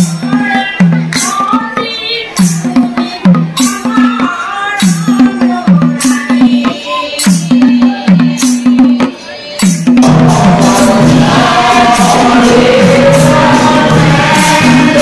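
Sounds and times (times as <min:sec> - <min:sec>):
cymbals clashing: 0:00.0 - 0:15.0
hand drum rhythm: 0:00.0 - 0:15.0
women singing: 0:00.1 - 0:15.0.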